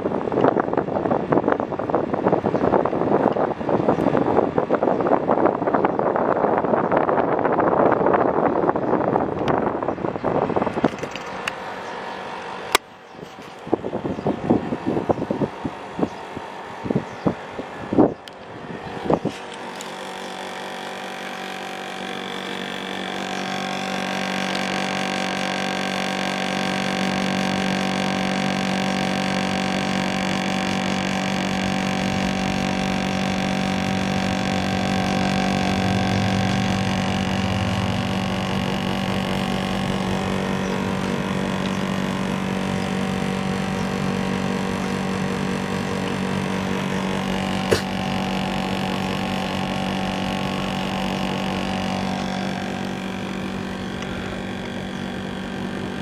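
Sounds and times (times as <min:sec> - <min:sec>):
air conditioner unit humming: 0:00.0 - 0:56.0.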